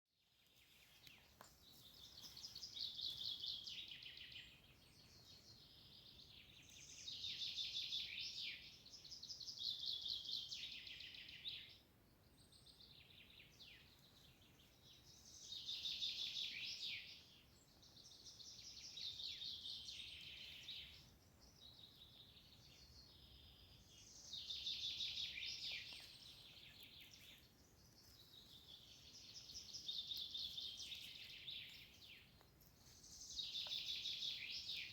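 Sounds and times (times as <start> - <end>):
songbird singing trills: 0.9 - 34.9.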